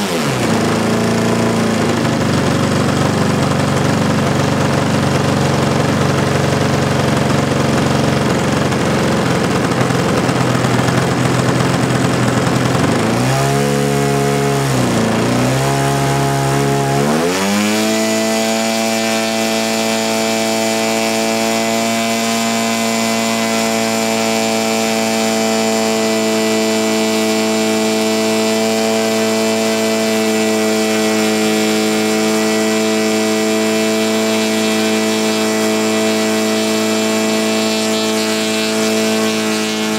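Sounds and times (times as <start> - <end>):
model plane engine running: 0.0 - 39.9.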